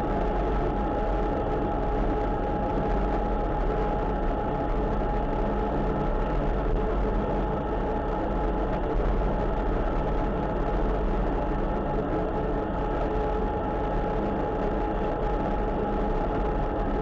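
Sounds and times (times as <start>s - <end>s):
constant whine: 0.0s - 17.0s.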